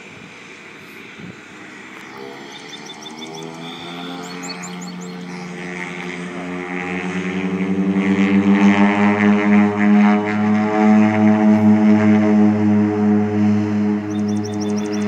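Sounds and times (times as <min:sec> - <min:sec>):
propeller engine droning: 0:00.0 - 0:15.0.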